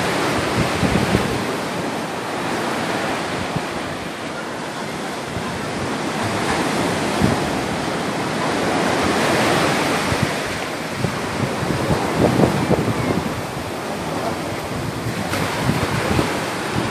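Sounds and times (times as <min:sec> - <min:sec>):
waves washing up a sandy beach: 0:00.0 - 0:16.9
wind buffeting microphone: 0:00.0 - 0:16.9.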